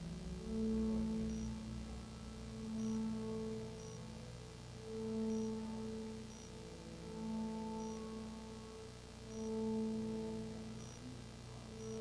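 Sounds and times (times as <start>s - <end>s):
sustained drone tones: 0.0s - 12.0s.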